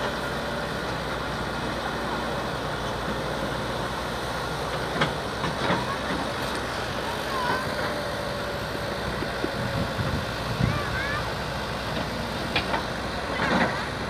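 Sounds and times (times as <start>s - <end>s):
heavy machinery engine running: 0.0s - 14.0s.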